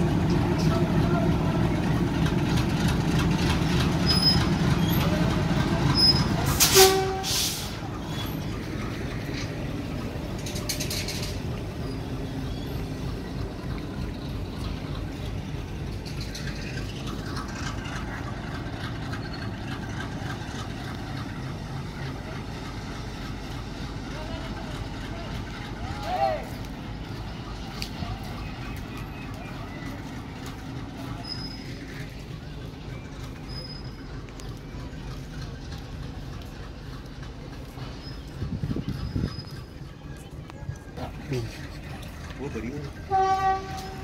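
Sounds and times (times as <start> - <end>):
train rumbling past on rails: 0.0 - 44.0.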